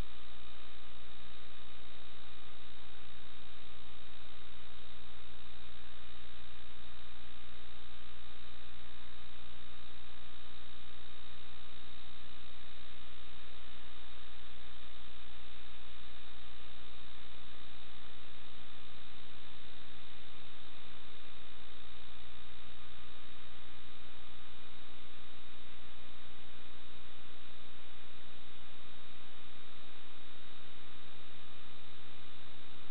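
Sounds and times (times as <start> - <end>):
constant whining tones: 0.0 - 32.9
electrical hum and hiss: 0.0 - 32.9.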